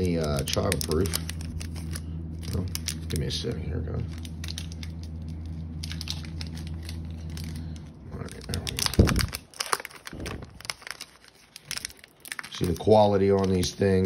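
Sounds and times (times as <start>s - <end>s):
foil wrapper tearing and crinkling: 0.0s - 14.0s
steady low hum: 0.0s - 14.0s.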